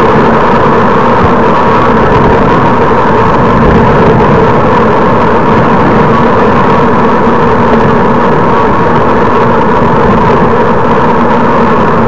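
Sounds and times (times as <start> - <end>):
constant hum: 0.0 - 12.0
wind noise on microphone: 0.0 - 12.0.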